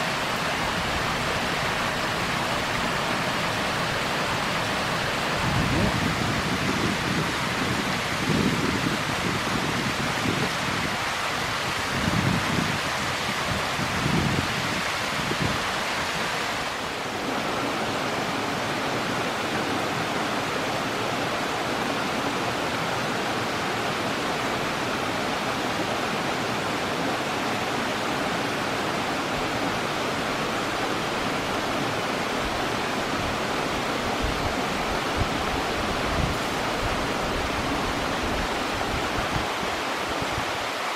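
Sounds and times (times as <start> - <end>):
forest stream rushing: 0.0 - 40.9.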